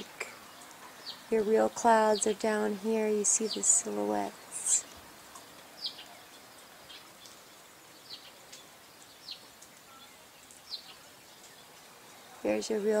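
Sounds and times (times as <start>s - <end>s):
bird chirping: 0.0s - 13.0s
steady background hiss: 0.0s - 13.0s.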